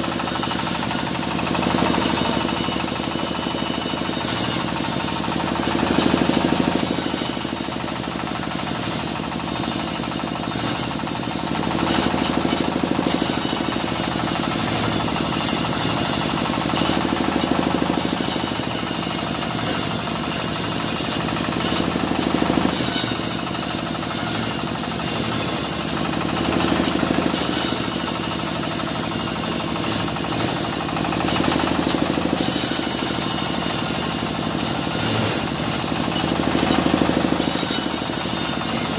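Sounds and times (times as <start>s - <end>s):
saw hissing through logs: 0.0s - 38.9s
sawmill engine running: 0.0s - 38.9s.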